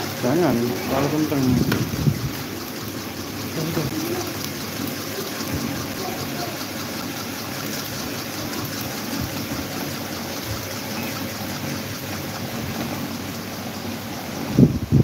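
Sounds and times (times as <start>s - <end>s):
fan motors humming: 0.0s - 15.0s
rush of fan air: 0.0s - 15.0s.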